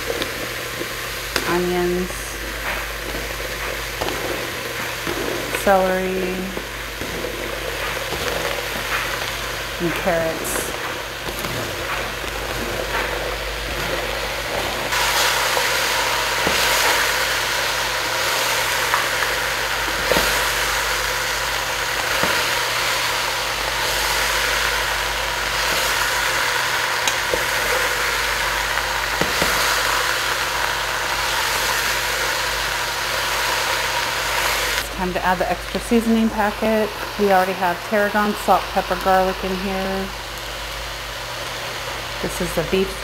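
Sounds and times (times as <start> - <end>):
meat and vegetables sizzling: 0.0 - 43.0
steady low hum: 0.0 - 43.0.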